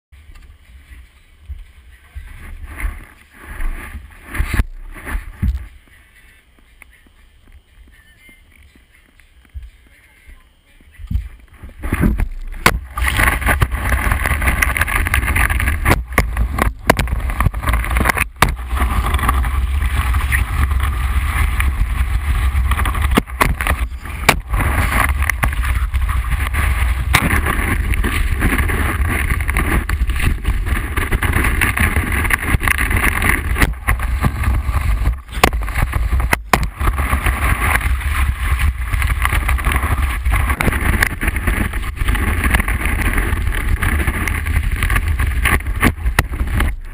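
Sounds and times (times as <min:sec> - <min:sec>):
wind rumble on camera: 0:00.2 - 0:46.9.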